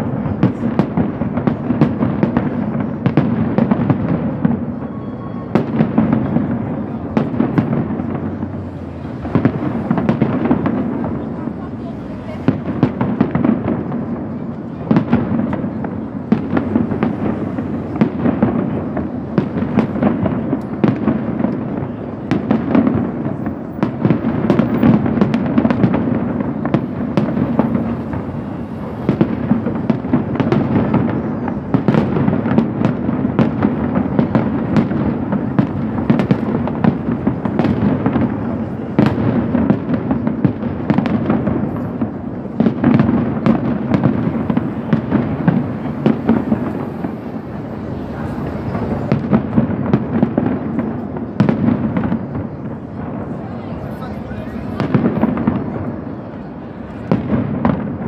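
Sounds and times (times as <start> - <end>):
fireworks bangs and cracks: 0.0 - 58.0.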